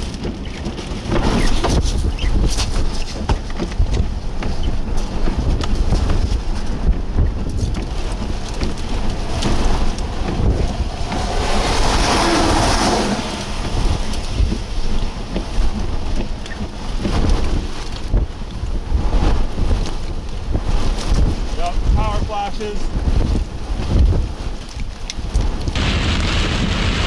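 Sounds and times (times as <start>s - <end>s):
storm wind buffeting microphone: 0.0s - 27.0s.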